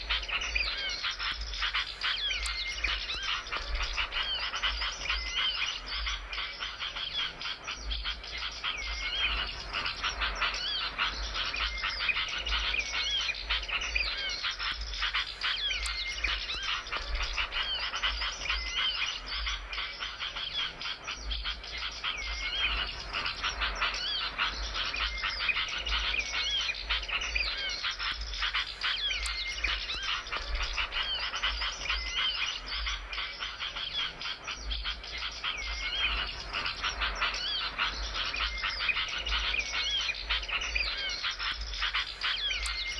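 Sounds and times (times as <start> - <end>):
songbird chattering trills: 0.0 - 42.9.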